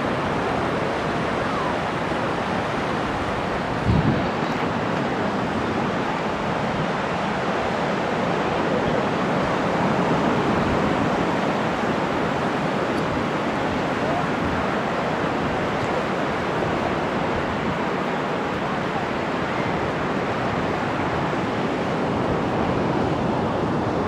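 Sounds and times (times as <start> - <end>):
ocean surf washing on shore: 0.0 - 24.0.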